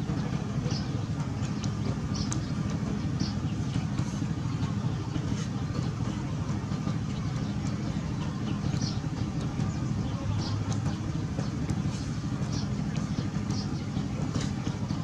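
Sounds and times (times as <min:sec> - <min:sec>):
engine-like low hum: 0:00.0 - 0:15.0.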